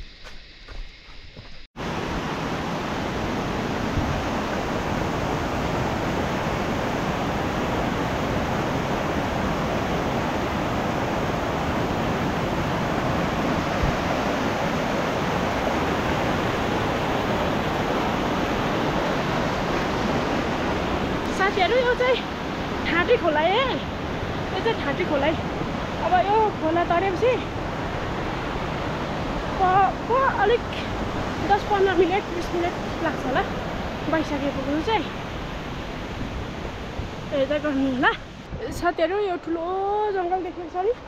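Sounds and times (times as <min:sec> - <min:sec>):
stream cascading over boulders: 0:01.8 - 0:38.4.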